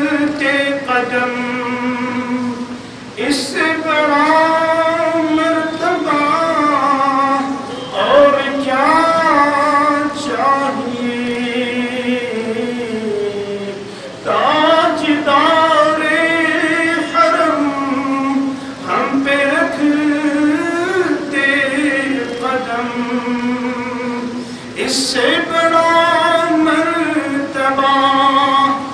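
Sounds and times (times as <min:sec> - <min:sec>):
man chanting: 0:00.0 - 0:28.9.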